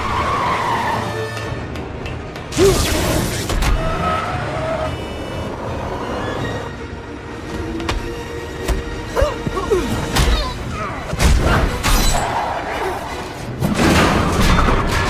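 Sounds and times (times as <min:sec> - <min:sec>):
film music: 0:00.0 - 0:15.0
rumbling action background: 0:00.0 - 0:15.0.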